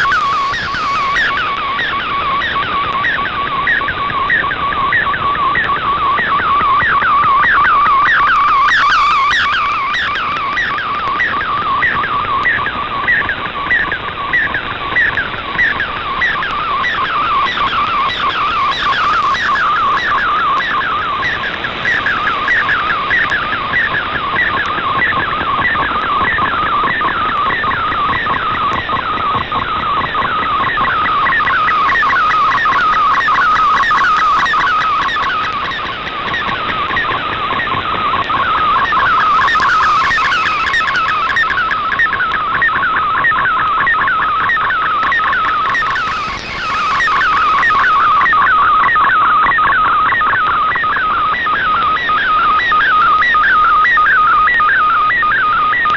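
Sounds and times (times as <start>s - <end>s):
radio hiss: 0.0s - 55.9s
warbling gliding radio tones: 0.0s - 55.9s.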